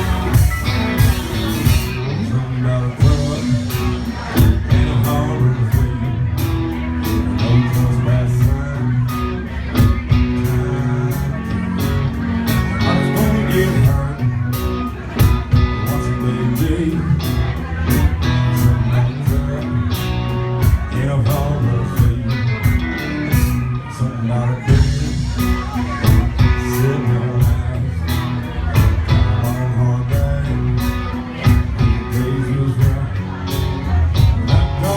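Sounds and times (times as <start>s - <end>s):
country rock band music: 0.0s - 34.9s.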